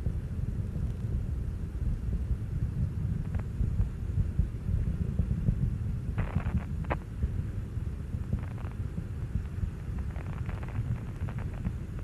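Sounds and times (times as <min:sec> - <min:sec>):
rocket exhaust rumbling: 0:00.0 - 0:12.0
faint crackles: 0:00.1 - 0:01.6, 0:02.3 - 0:12.0.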